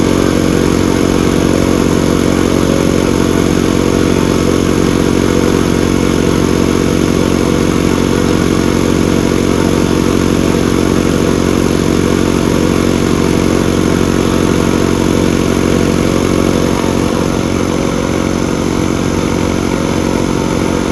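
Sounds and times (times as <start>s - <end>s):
air compressor running: 0.0s - 20.9s.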